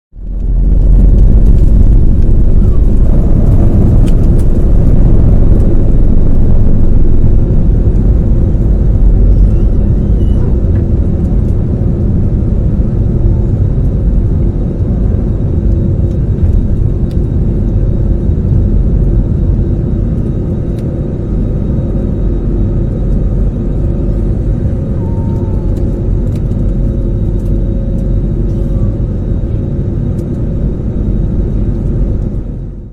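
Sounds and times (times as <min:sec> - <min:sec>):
jet engines rumbling: 0:00.2 - 0:32.9.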